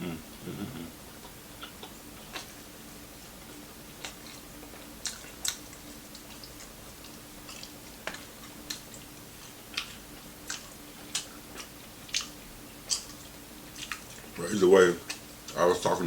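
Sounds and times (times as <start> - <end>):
faint steady hum: 0.0 - 16.0
crunchy chewing: 1.2 - 2.6, 3.3 - 15.6.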